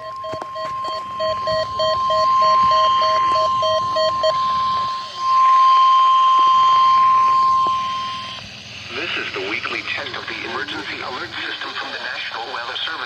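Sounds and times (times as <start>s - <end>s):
low pulsing beep: 0.0s - 11.9s
steady warning alarm tone: 0.0s - 13.0s.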